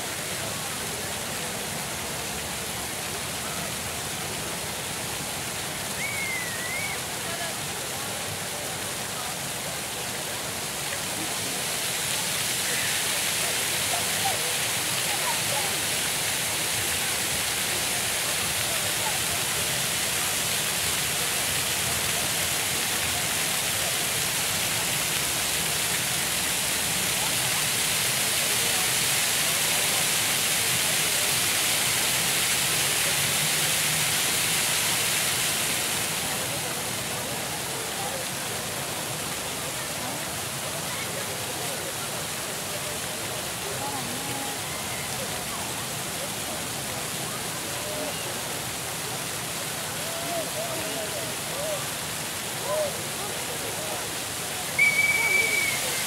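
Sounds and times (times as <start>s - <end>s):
faint voices: 0.0s - 56.0s
fountain water splashing: 0.0s - 56.0s.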